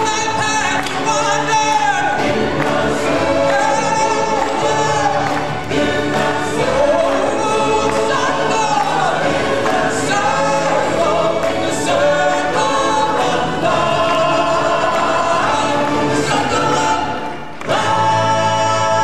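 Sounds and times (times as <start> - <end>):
choir singing: 0.0 - 19.0
instrumental backing music: 0.0 - 19.0.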